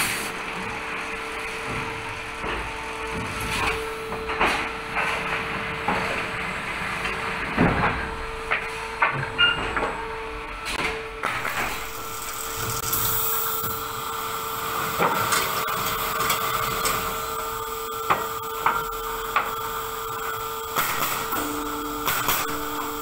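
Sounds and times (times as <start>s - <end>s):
machine motor hum and whine: 0.0s - 23.0s.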